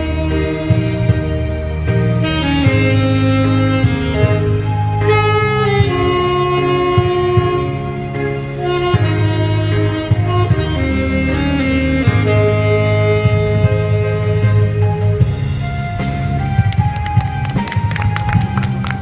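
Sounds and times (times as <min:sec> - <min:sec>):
bass and drum backing: 0:00.0 - 0:19.0
saxophone melody: 0:00.0 - 0:19.0.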